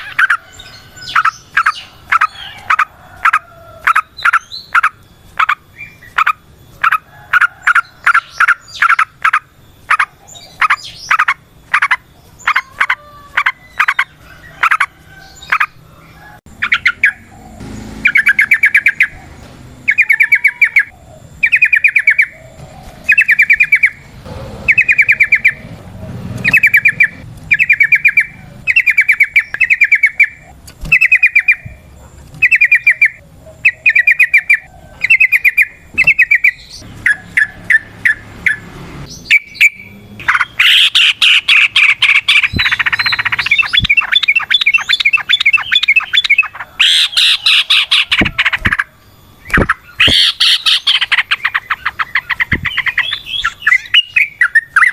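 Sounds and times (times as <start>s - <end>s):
bulbul chattering calls: 0.0s - 54.9s.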